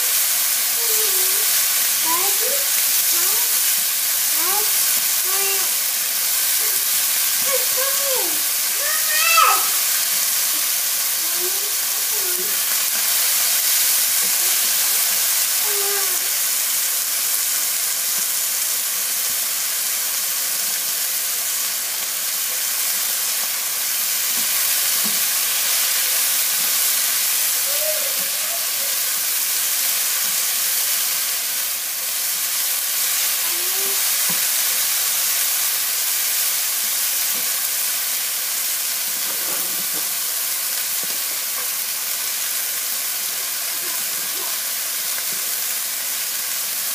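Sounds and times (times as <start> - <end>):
chicken sizzling in a frying pan: 0.0 - 46.9.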